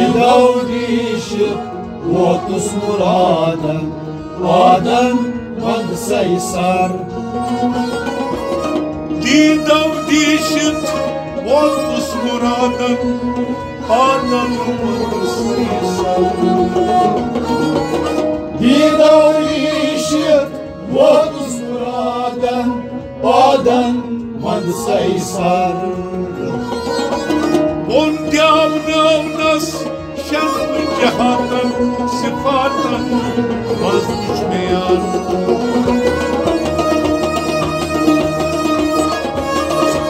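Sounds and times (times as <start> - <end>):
men singing: 0.0 - 7.9, 9.2 - 17.6, 18.5 - 26.9, 27.9 - 36.0
bowed sarangi: 0.0 - 40.0
harmonium chords: 0.0 - 40.0.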